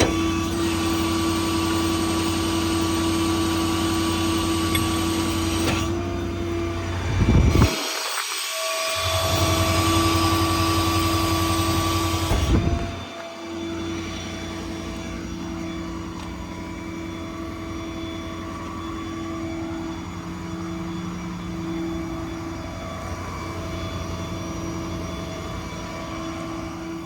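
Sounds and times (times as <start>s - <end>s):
diesel engine idling: 0.0s - 7.6s, 9.0s - 27.0s.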